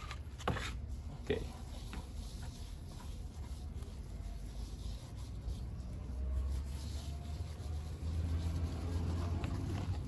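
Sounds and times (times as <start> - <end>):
gloved hands rubbing: 0.5 - 10.0.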